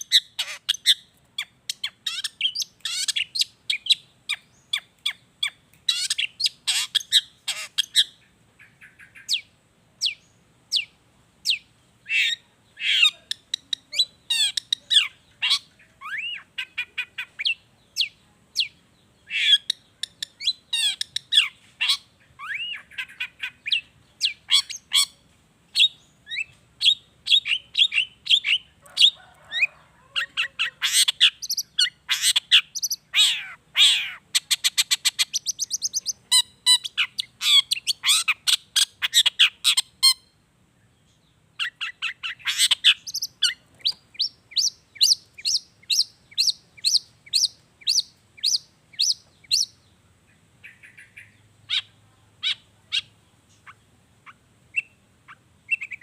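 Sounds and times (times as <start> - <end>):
shrike singing varied song: 0.0 - 56.0.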